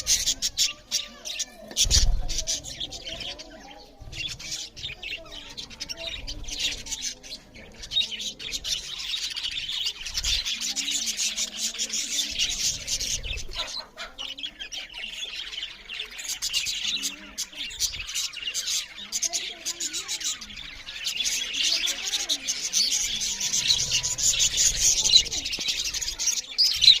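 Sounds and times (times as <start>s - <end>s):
budgerigars chattering and chirping: 0.0s - 27.0s.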